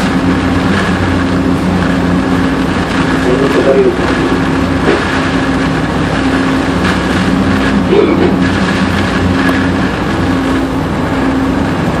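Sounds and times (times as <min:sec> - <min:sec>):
ship engine drone: 0:00.0 - 0:12.0
storm wind rushing: 0:00.0 - 0:12.0.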